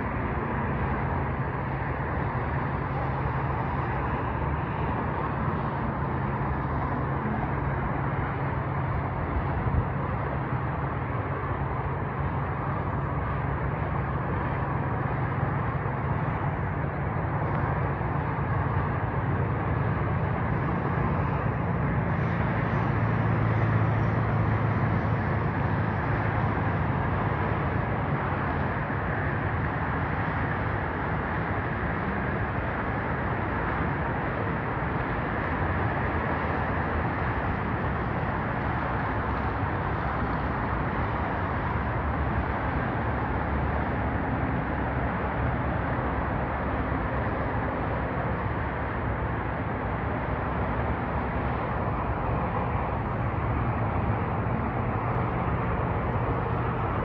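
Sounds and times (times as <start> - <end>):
passing vehicle noise: 0.0 - 57.0.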